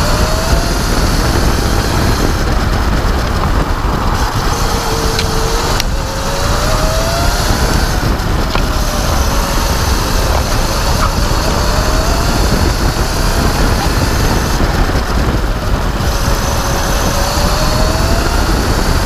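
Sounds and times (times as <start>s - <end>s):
electric motor whine: 0.0s - 19.0s
road rumble: 0.0s - 19.0s
wind rush: 0.0s - 19.0s.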